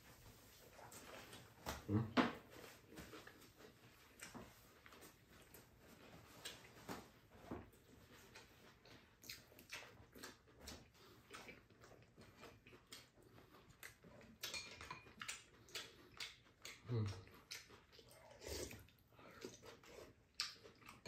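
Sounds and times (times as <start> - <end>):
quiet eating sounds: 0.0 - 21.0.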